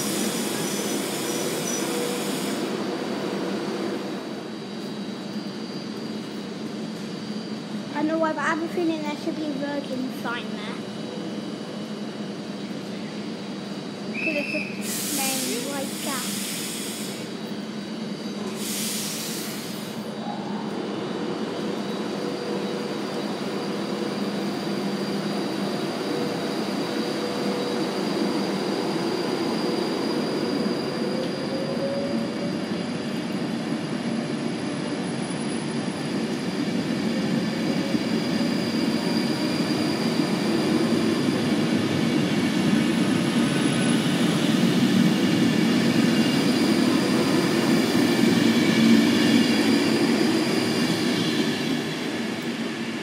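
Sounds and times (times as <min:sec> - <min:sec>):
train coaches rumbling on rails: 0:00.0 - 0:53.0.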